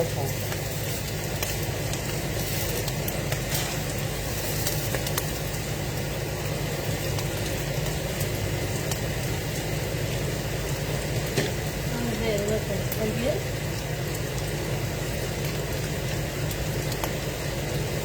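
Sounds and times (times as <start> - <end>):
pot boiling: 0.0 - 18.0.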